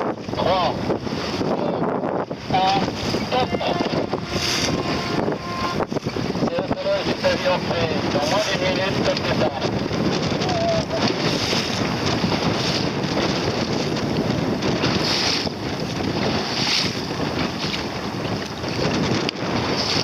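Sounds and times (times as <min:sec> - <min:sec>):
water rushing around boat: 0:00.0 - 0:20.0
wind buffeting microphone: 0:00.0 - 0:20.0.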